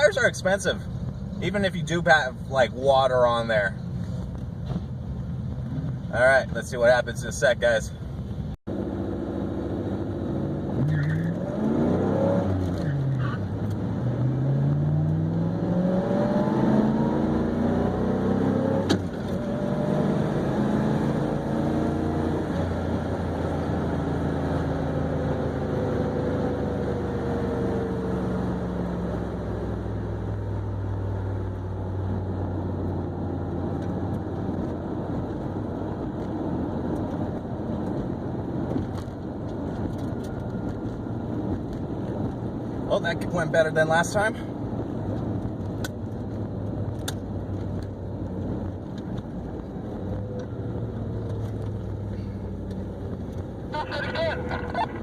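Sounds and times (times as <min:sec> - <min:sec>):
car engine revving: 0:08.7 - 0:55.0.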